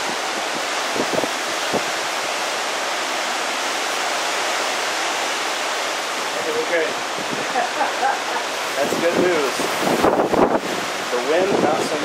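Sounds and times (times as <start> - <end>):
strong wind through trees: 0.0 - 12.0.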